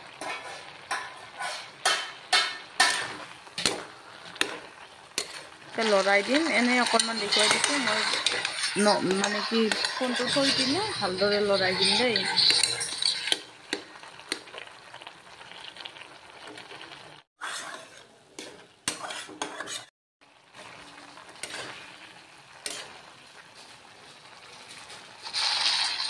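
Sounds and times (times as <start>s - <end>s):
metal spatula scraping a pan: 0.0s - 13.5s, 17.4s - 19.9s, 20.6s - 26.0s
low sizzle: 0.0s - 26.0s.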